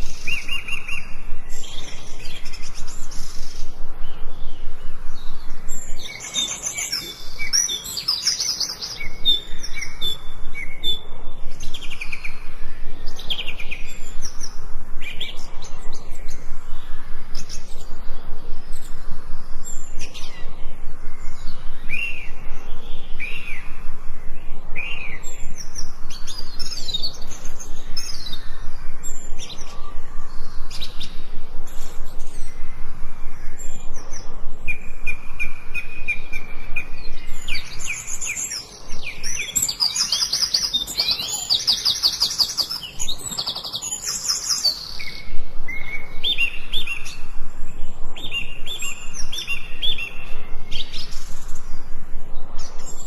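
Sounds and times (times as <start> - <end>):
forest birds singing and chirping: 0.0 - 53.0.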